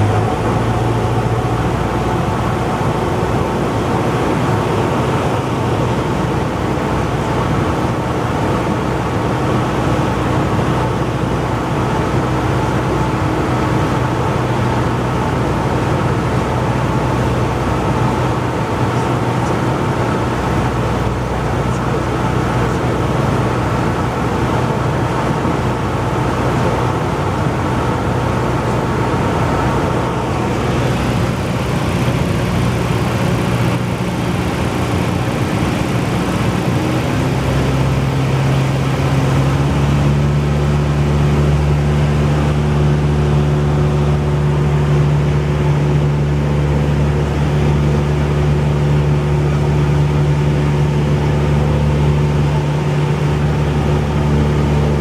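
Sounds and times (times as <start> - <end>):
propeller plane engine running: 0.0 - 55.0.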